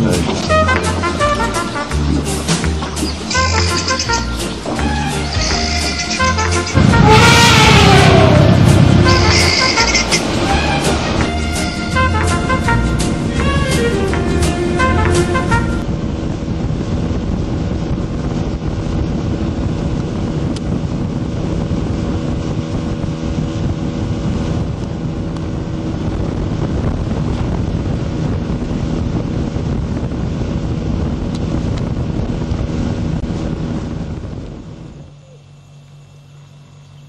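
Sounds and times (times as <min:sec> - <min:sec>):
wind buffeting microphone: 0:00.0 - 0:35.2.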